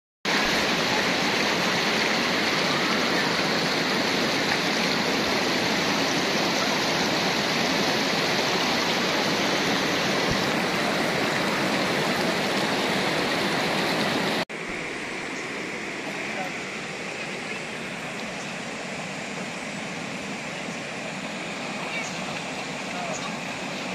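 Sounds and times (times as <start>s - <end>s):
river rushing over rocks: 0.3s - 23.9s.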